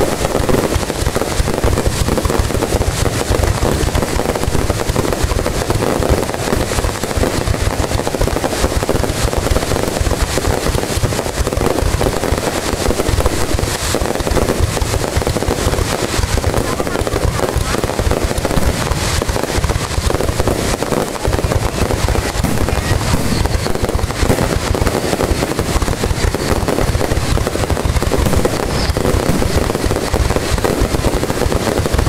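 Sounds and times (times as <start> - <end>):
fireworks bursting and crackling: 0.0 - 32.0.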